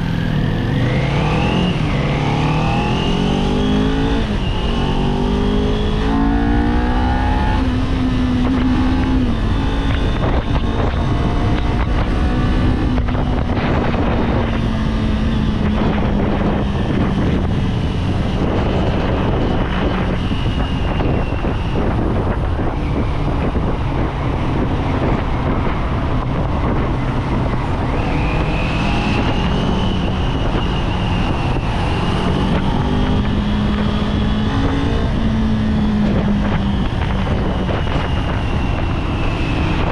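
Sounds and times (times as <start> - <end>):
motorcycle engine: 0.0 - 39.9
wind rushing: 0.0 - 39.9.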